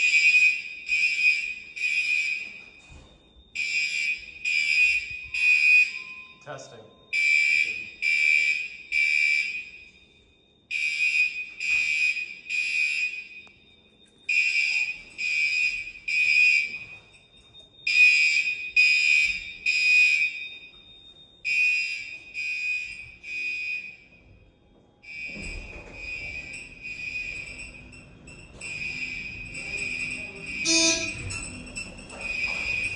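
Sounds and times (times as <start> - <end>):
fire alarm bell ringing: 0.0 - 32.9.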